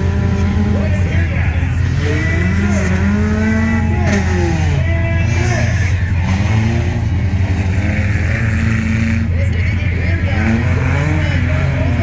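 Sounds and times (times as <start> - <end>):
truck engines revving hard: 0.0 - 12.0.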